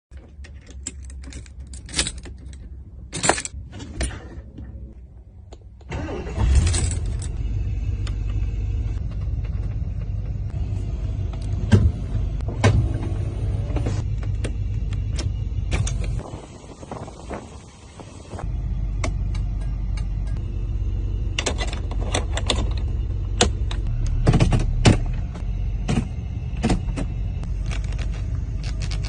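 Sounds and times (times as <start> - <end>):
car engine starting and idling: 5.6 - 29.0.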